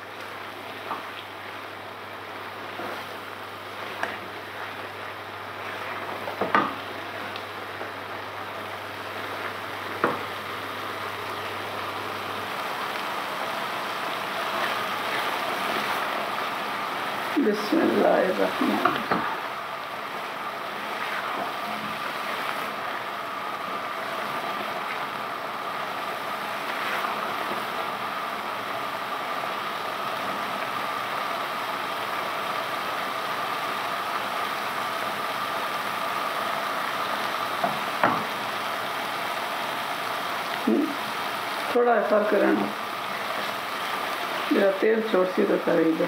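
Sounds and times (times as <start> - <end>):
faint steady hum: 0.0 - 46.0
food sizzling in a pan: 0.0 - 46.0.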